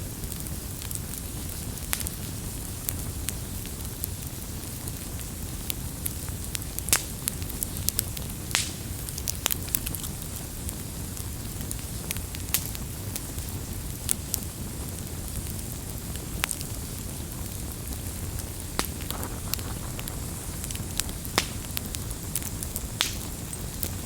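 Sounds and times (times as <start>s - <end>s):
fire hissing: 0.0s - 24.0s
flames rumbling: 0.0s - 24.0s
campfire pops and snaps: 0.1s - 24.0s.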